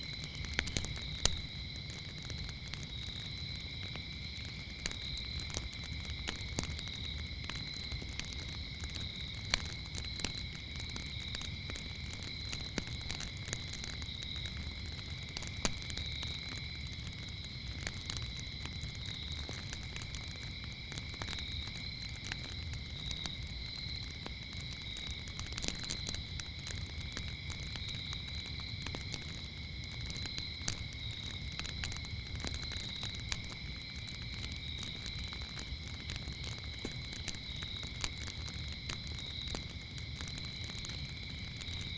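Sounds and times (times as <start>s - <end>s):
campfire crackling and popping: 0.0s - 41.9s
crickets chirping: 0.0s - 41.9s.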